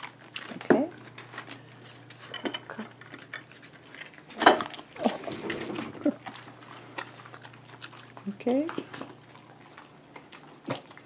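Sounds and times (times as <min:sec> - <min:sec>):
dogs chewing food: 0:00.0 - 0:11.0.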